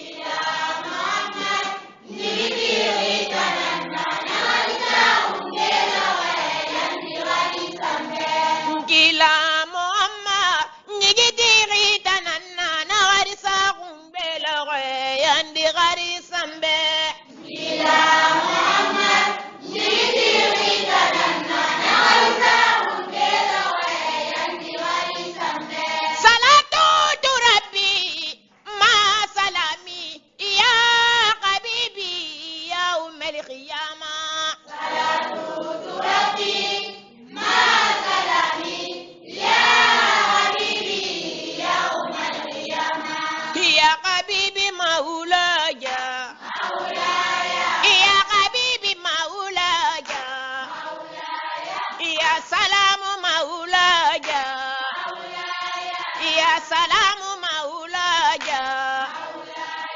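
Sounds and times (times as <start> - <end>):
voices singing a devotional chant: 0.0 - 59.9.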